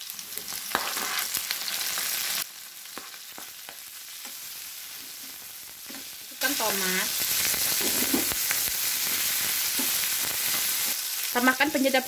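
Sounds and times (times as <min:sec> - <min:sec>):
chilies sizzling in hot oil: 0:00.0 - 0:12.0.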